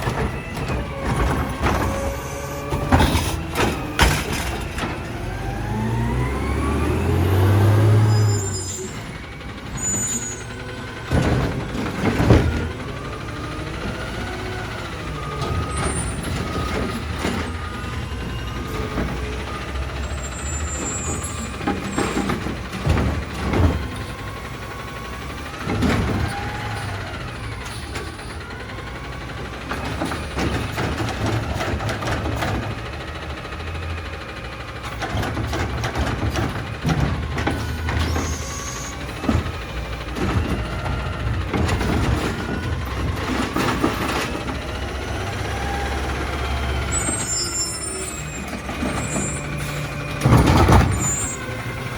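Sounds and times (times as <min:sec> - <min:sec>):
hydraulic whine: 0:00.0 - 0:29.1, 0:34.8 - 0:51.9
diesel engine running: 0:00.0 - 0:51.9.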